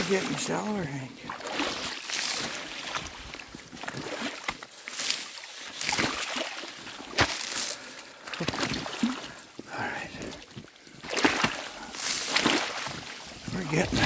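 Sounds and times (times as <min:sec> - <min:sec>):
boots wading through water: 0:00.0 - 0:14.0.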